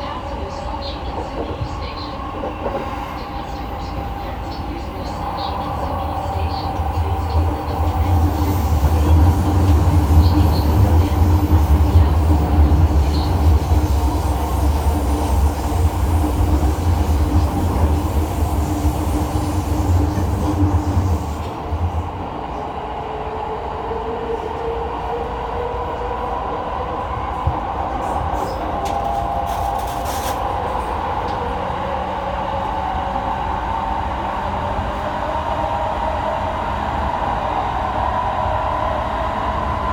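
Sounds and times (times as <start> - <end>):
train running rumble: 0.0 - 22.7, 27.0 - 36.8.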